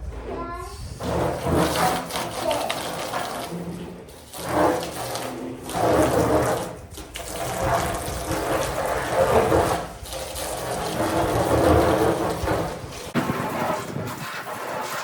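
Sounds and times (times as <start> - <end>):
water splashing and spraying: 1.0 - 15.0.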